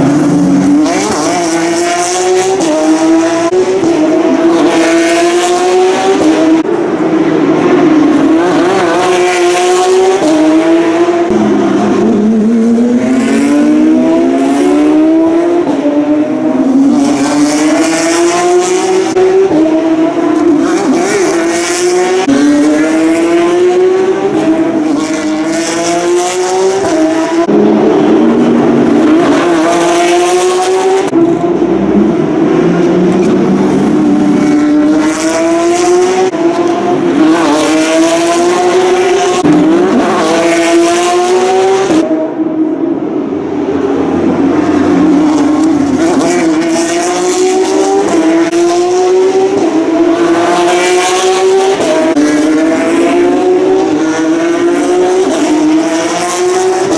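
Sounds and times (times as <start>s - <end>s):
race car engines accelerating: 0.0s - 56.9s.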